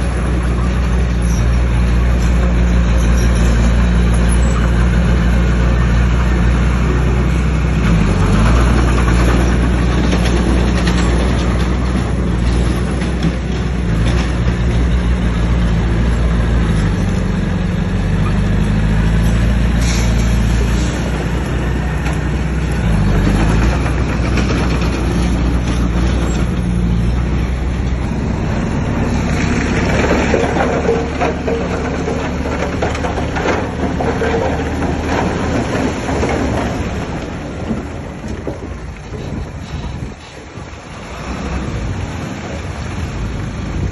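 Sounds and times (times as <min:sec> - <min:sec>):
heavy diesel machine engine: 0:00.0 - 0:43.9.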